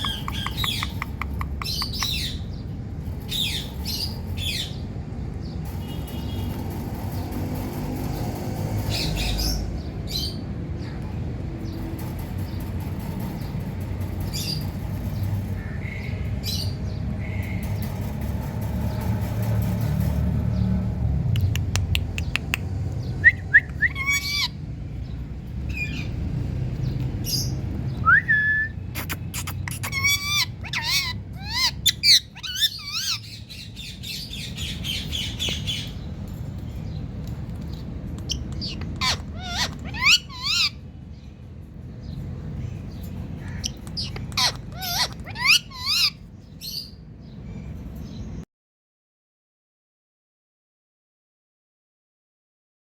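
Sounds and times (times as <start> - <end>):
parakeet squawking and chirping: 0.0 - 20.2, 23.4 - 28.0, 28.8 - 47.0
steady low rumble: 0.0 - 48.0.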